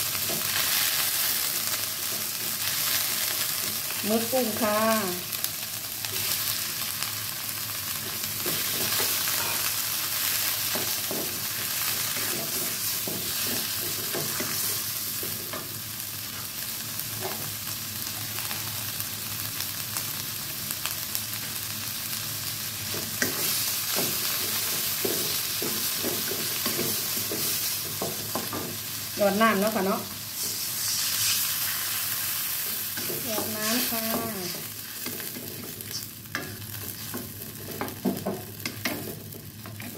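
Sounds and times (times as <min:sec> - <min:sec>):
seafood sizzling in wok: 0:00.0 - 0:39.9.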